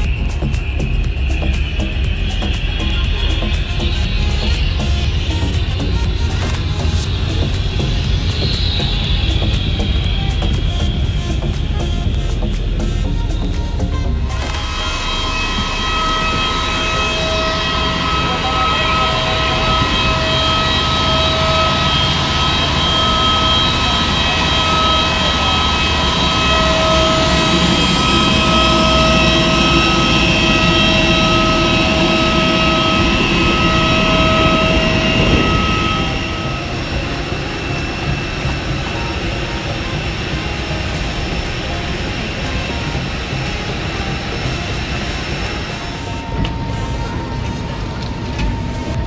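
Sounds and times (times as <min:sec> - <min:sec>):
jet turbine whine: 0:00.0 - 0:49.0
rushing noise: 0:00.0 - 0:49.0.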